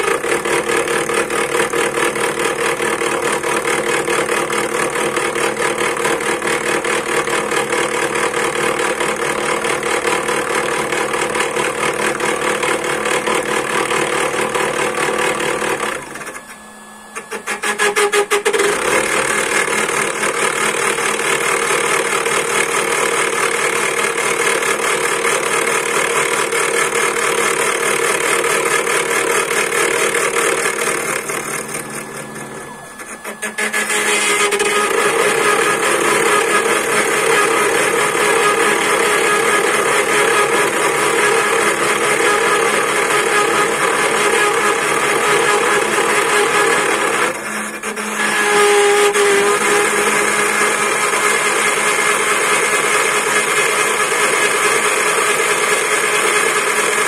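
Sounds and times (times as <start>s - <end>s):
cnc spindle cutting wood: 0.0s - 57.0s.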